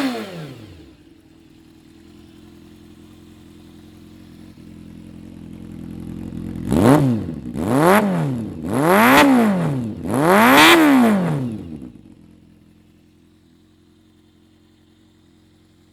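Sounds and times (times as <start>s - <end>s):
engine idling and revving: 0.0s - 15.9s.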